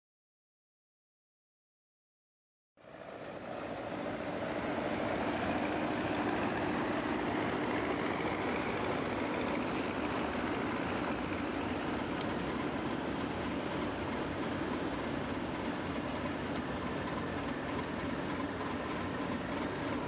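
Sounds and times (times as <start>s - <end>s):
ship engines droning: 2.8s - 20.0s.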